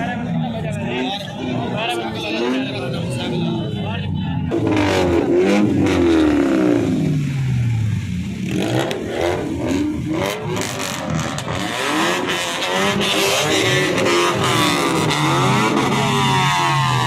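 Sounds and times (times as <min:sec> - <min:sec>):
car and motorbike engines revving: 0:00.0 - 0:17.0.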